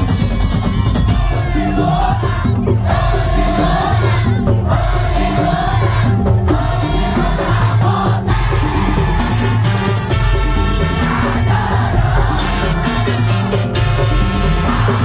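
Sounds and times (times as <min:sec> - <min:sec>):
pounding drums and percussion: 0:00.0 - 0:15.0.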